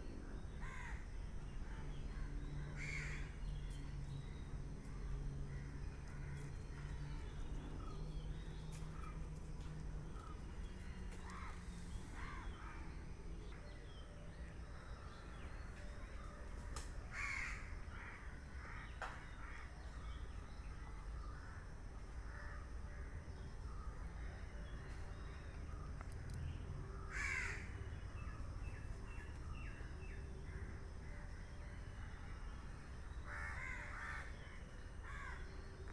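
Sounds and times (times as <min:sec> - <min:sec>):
low steady hum: 0:00.0 - 0:35.9.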